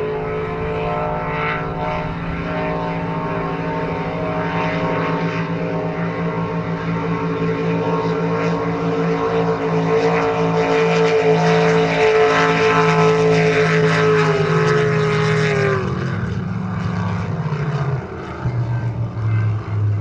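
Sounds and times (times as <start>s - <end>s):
racing boat engines: 0.0s - 20.0s.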